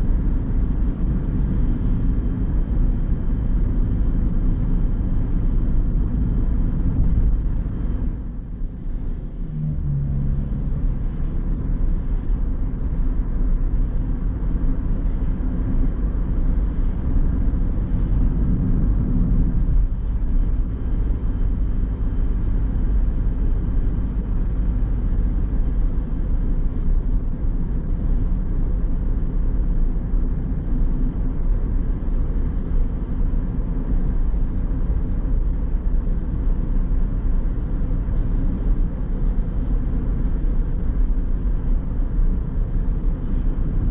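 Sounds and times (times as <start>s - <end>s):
car road and engine rumble: 0.0s - 43.9s.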